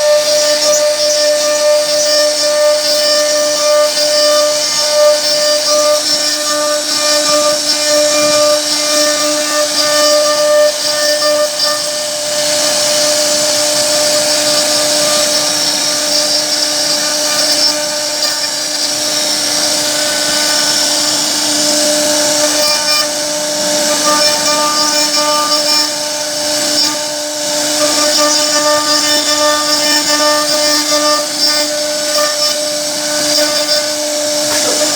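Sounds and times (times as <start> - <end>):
router spindle whining cutting wood: 0.0 - 34.9.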